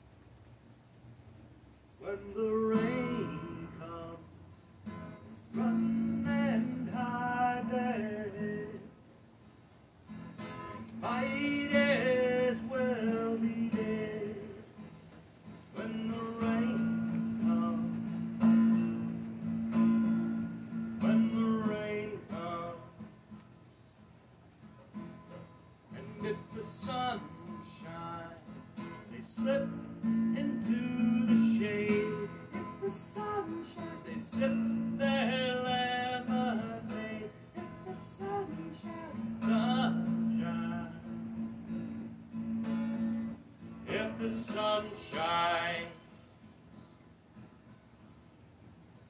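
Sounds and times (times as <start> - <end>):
acoustic guitar strumming: 2.0 - 9.0, 10.0 - 49.0.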